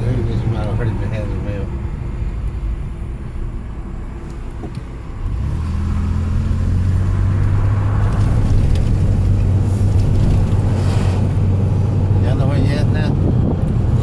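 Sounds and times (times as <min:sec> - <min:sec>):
car engine hum: 0:00.0 - 0:14.0
road noise inside car: 0:00.0 - 0:14.0.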